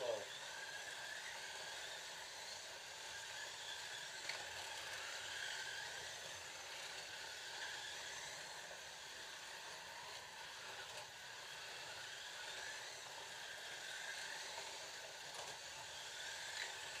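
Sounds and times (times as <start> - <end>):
slot car electric motors whining: 0.0 - 17.0.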